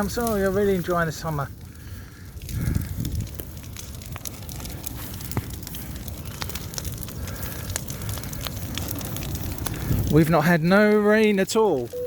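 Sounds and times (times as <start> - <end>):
bonfire crackling and popping: 0.0 - 12.0
low fire rumble: 0.0 - 12.0.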